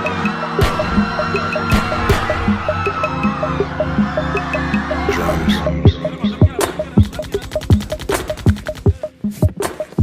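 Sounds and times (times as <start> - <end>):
instrumental hip-hop beat: 0.0 - 10.0.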